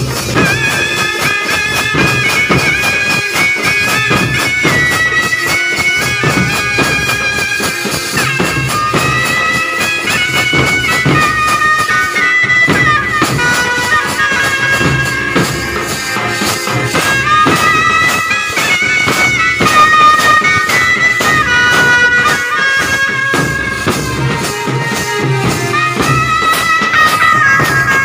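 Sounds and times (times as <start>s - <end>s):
shrill reed wind instrument: 0.0s - 28.0s
side drums beaten with sticks: 0.0s - 28.0s.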